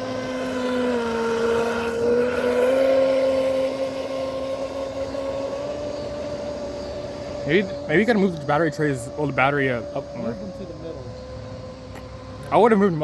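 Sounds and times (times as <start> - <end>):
electric boat motor whining: 0.0 - 13.0.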